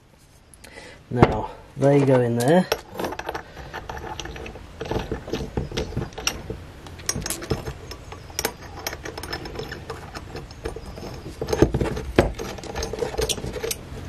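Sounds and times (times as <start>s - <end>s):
metal bolts and nuts clicking: 1.2s - 14.0s.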